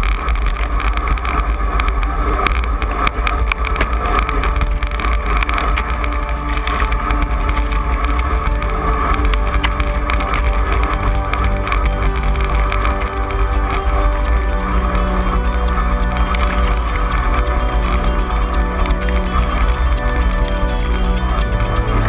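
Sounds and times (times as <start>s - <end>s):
bike rattles: 0.0s - 20.2s
tyre and road hum: 0.0s - 22.0s.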